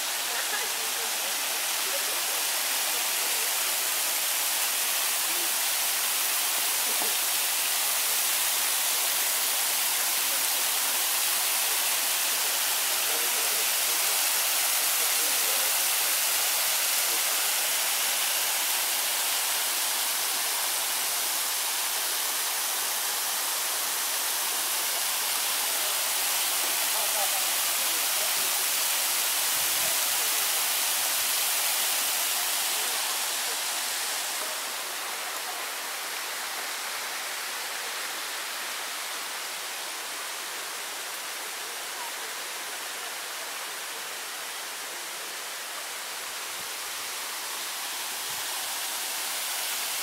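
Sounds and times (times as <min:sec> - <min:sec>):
waterfall splashing into pool: 0:00.0 - 0:50.0.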